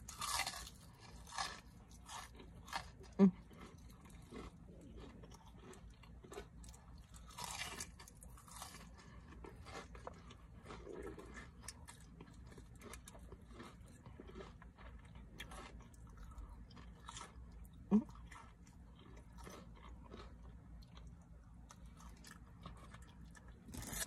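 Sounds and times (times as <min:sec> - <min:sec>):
chewing food: 0:00.0 - 0:24.0
food crunching: 0:00.0 - 0:24.0.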